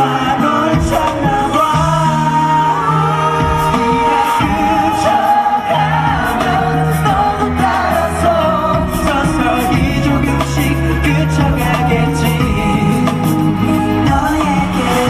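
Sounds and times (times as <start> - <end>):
backing track with bass: 0.0 - 15.0
men singing pop song: 0.0 - 15.0.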